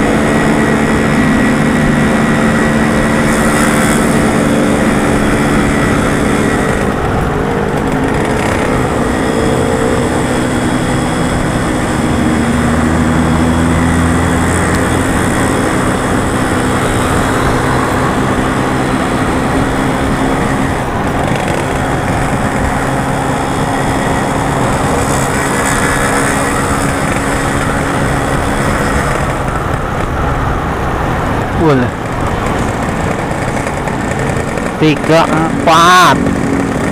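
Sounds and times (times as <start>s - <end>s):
motorcycle engine running: 0.0s - 36.9s
road and wind noise: 0.0s - 36.9s.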